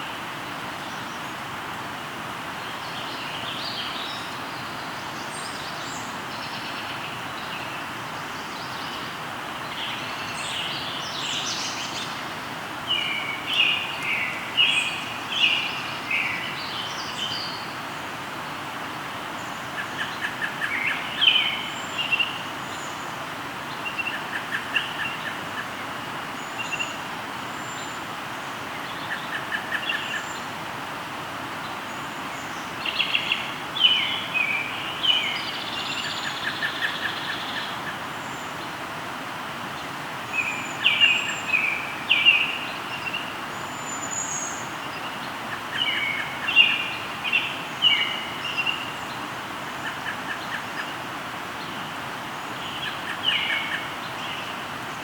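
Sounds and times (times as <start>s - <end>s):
flowing river: 0.0s - 55.0s
birds singing: 2.6s - 30.7s, 31.6s - 38.8s, 39.7s - 55.0s.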